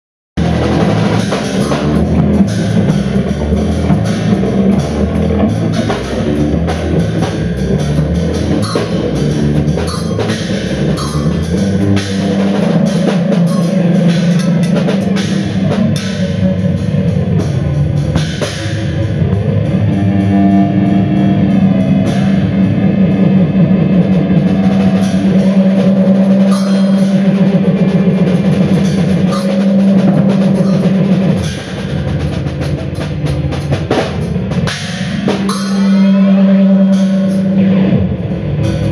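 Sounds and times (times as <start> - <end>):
steady low drone: 0.4 - 38.9.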